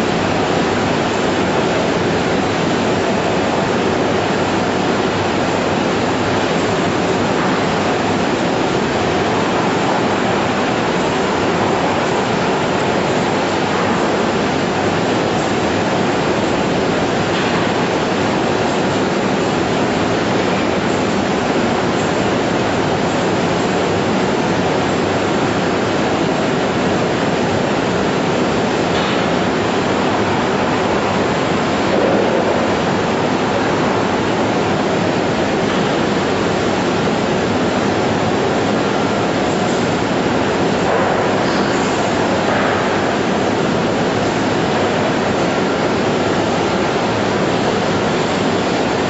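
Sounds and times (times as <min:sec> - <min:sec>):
processing line machinery rushing: 0:00.0 - 0:49.0.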